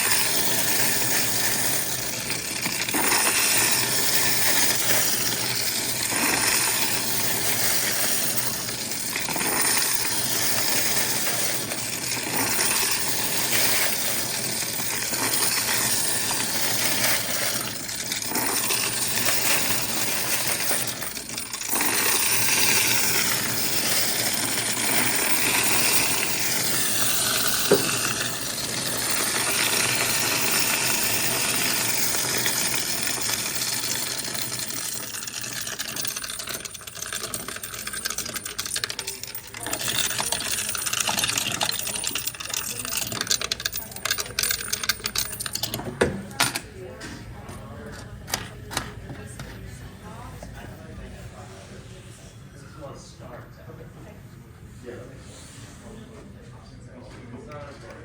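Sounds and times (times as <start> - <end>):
coins clattering in counting machine: 0.0 - 49.5.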